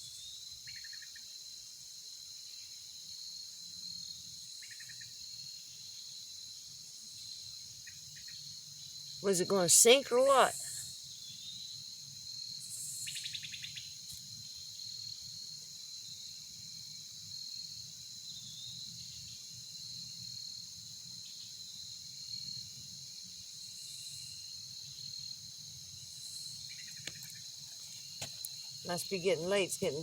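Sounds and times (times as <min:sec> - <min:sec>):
crickets singing: 0:00.0 - 0:30.0.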